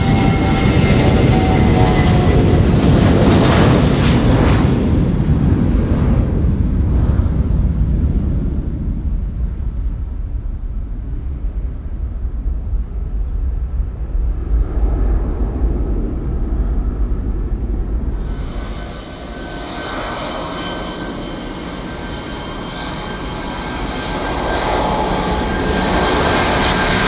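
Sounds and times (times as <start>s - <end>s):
jet airliner taking off: 0.0s - 27.0s.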